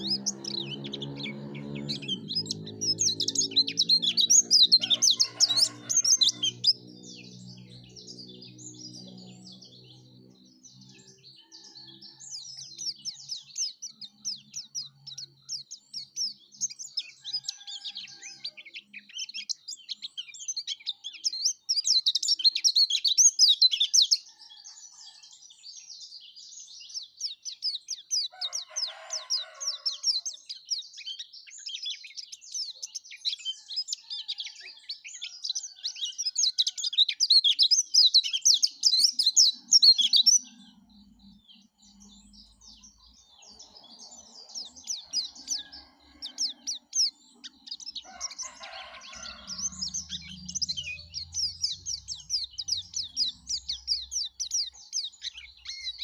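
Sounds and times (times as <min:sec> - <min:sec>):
bird twittering song: 0:00.0 - 0:56.0.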